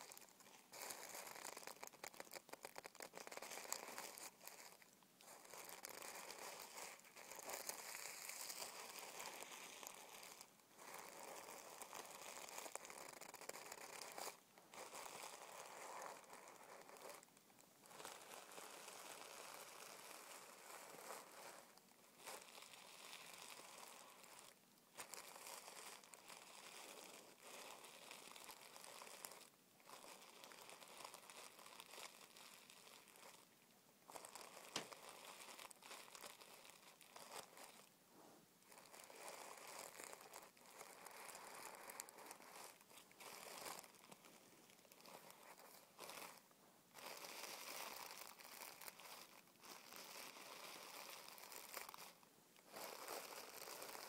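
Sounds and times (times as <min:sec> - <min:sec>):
tissue paper crinkling: 0:00.0 - 0:33.5, 0:34.1 - 0:37.9, 0:38.6 - 0:54.0.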